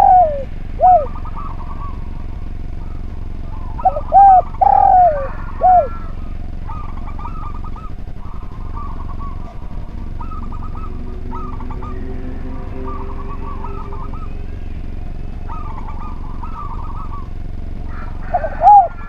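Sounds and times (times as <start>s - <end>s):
dove cooing: 0.0s - 19.0s
rapid stuttering bird call: 0.0s - 19.0s.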